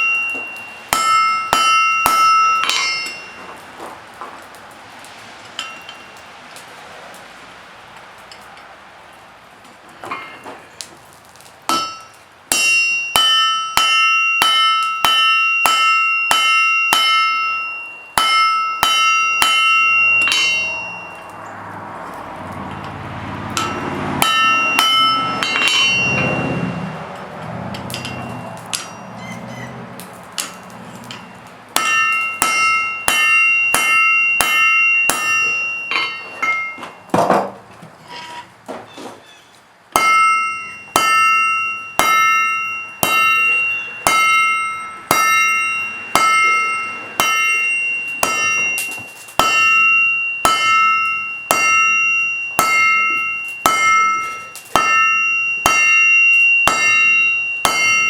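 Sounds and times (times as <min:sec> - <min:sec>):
hammer striking steel on anvil: 0:00.0 - 0:04.6, 0:05.6 - 0:06.2, 0:10.0 - 0:38.4, 0:39.9 - 0:58.0.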